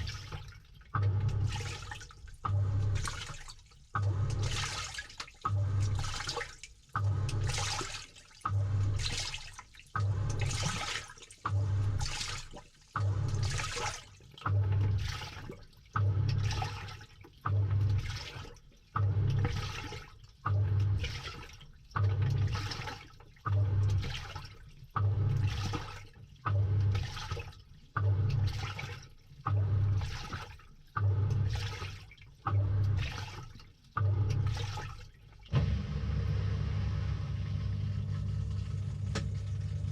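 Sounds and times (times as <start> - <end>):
water and clothes sloshing: 0.0 - 36.5, 37.2 - 39.9
washing machine agitating: 0.0 - 39.9.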